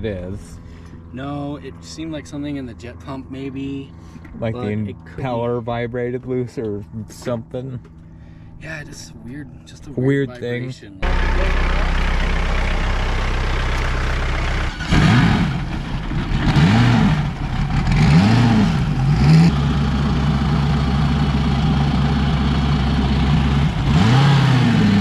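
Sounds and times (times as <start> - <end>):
engine revving and idling: 0.0 - 25.0.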